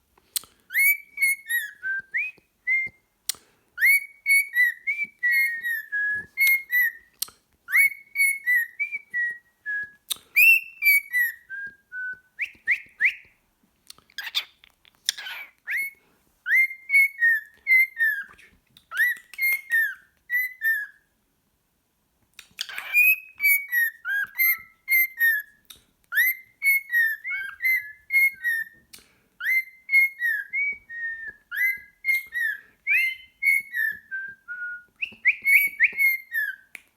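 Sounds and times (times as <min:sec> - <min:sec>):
cockatiel whistling: 0:00.7 - 0:03.0, 0:03.8 - 0:07.1, 0:07.7 - 0:13.3, 0:15.1 - 0:21.0, 0:22.6 - 0:28.8, 0:29.4 - 0:36.8.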